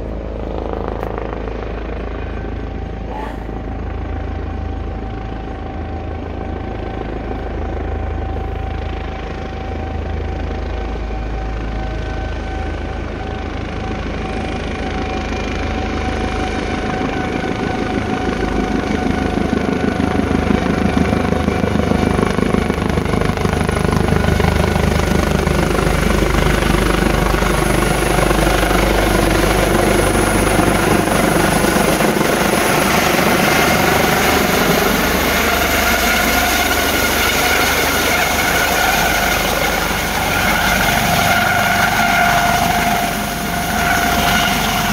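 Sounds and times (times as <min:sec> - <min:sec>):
helicopter rotor beat: 0:00.0 - 0:44.9
helicopter turbine whine: 0:00.0 - 0:44.9.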